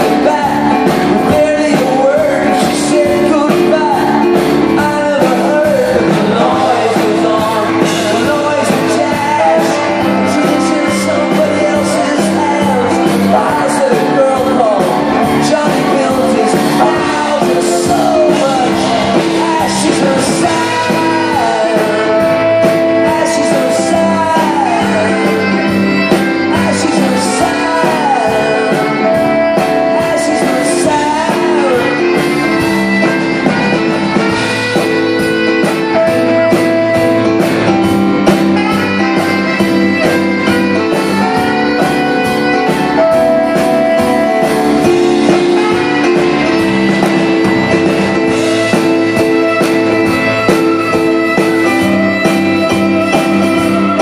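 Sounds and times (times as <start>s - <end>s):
live rock band with fiddle: 0.0s - 54.0s
sliding lead melody: 0.0s - 54.0s.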